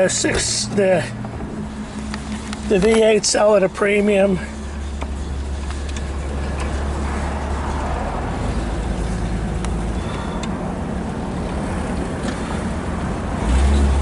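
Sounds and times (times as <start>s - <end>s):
car engine running: 0.0s - 14.0s
road and wind noise: 0.0s - 14.0s.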